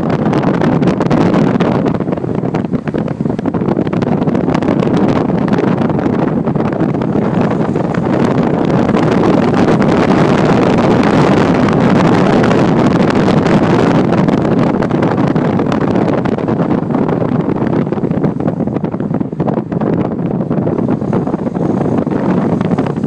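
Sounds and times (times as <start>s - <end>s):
car road noise: 0.0s - 23.0s
wind buffeting microphone: 0.0s - 23.0s.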